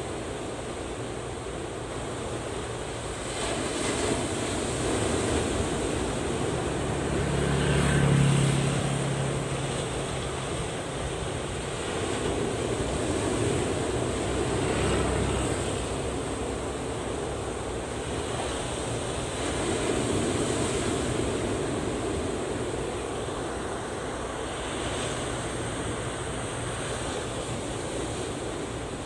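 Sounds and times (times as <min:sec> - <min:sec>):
ocean surf breaking on beach: 0:00.0 - 0:29.0.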